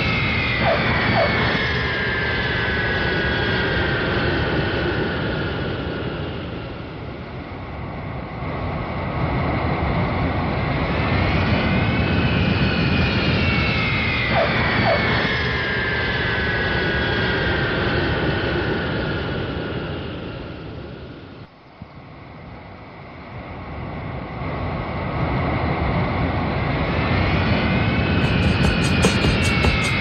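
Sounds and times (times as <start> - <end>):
jet aircraft roaring overhead: 0.0 - 21.4, 23.6 - 30.0.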